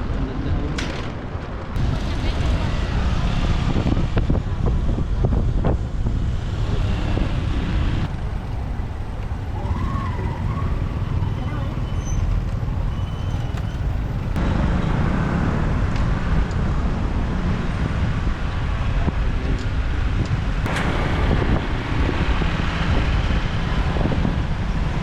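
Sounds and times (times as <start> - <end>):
motorbike engine rumble: 0.0 - 25.0
wind on microphone: 0.0 - 25.0.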